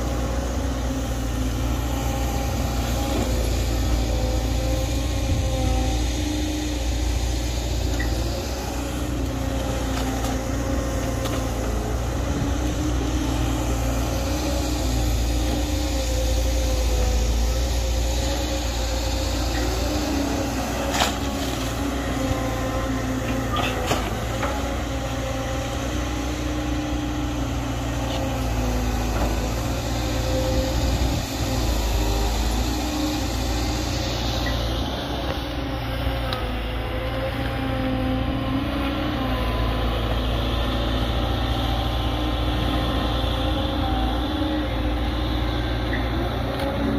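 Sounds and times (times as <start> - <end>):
excavator diesel engine running: 0.0 - 46.9
hydraulic whine: 0.0 - 46.9.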